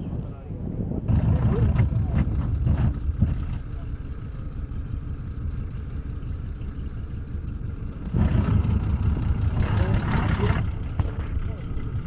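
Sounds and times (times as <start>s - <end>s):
car engine rumbling and revving: 1.0s - 12.0s.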